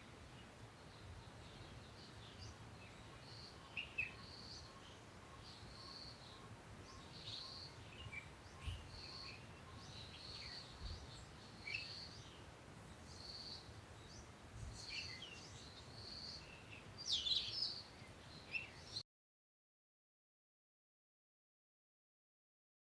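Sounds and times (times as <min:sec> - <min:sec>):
birds chirping: 0:00.0 - 0:19.0
faint steady hiss: 0:00.0 - 0:19.0.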